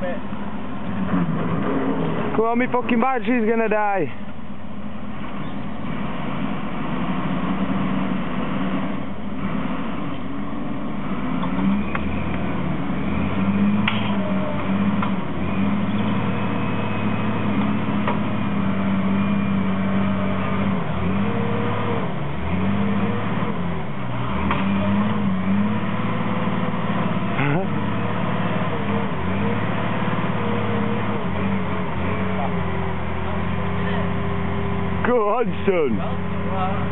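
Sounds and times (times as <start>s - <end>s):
heavy diesel engine revving: 0.0s - 4.3s, 5.1s - 36.9s.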